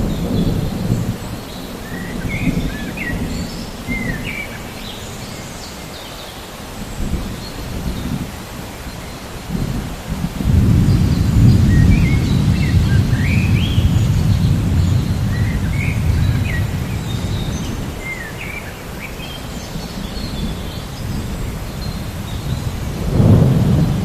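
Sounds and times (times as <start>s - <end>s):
low rumble of thunder: 0.0s - 5.6s, 6.8s - 18.5s, 19.3s - 24.0s
birds chirping: 0.0s - 24.0s
rain falling steadily: 0.0s - 24.0s.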